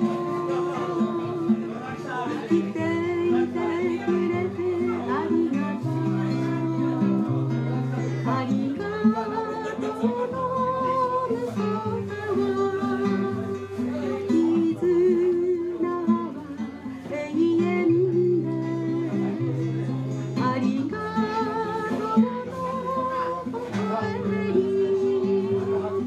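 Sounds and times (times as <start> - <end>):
acoustic guitar chords: 0.0 - 26.0
woman singing: 0.0 - 26.0.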